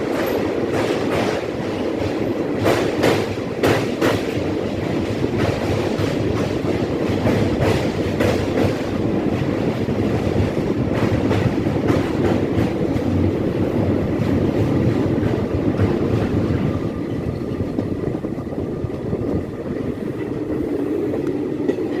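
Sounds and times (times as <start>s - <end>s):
train rumbling over bridge: 0.0s - 22.0s.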